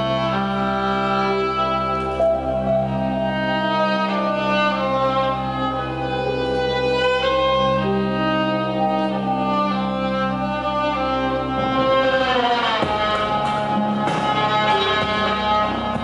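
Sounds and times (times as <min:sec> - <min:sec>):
violin bowed long notes: 0:00.0 - 0:16.0.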